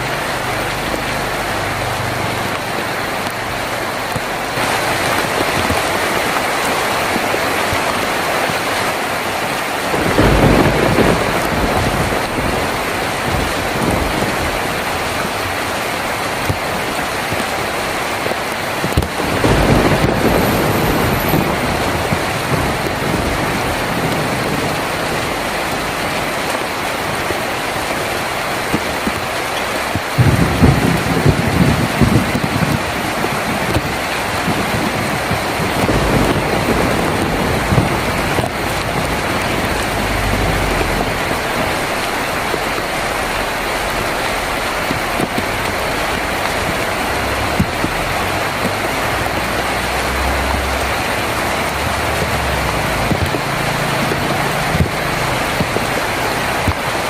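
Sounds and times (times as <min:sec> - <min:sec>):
rain on a tin roof: 0:00.0 - 0:57.0
thunder rumbling: 0:04.1 - 0:57.0.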